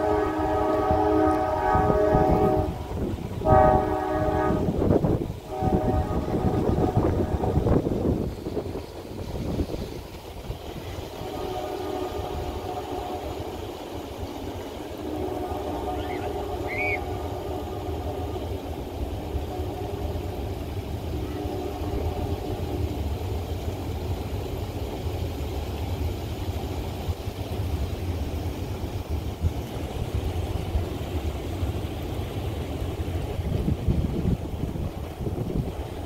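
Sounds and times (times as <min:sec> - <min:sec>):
diesel locomotive drone: 0:00.0 - 0:36.0.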